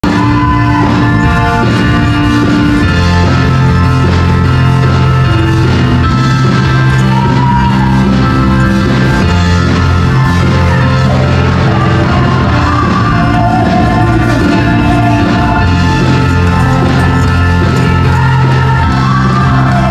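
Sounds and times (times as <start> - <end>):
band playing upbeat worship song: 0.0 - 19.9.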